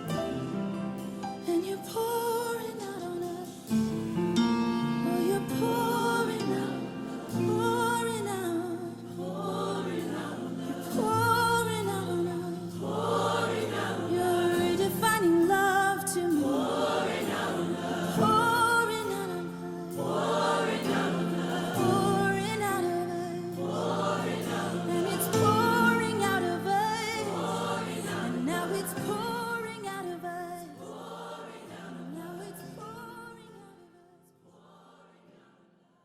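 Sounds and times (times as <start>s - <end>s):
choir singing gospel song: 0.0s - 36.0s.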